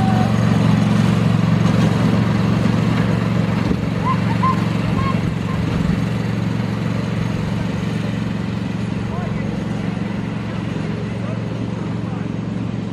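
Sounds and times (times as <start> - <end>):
miniature locomotive engine droning: 0.0 - 12.9.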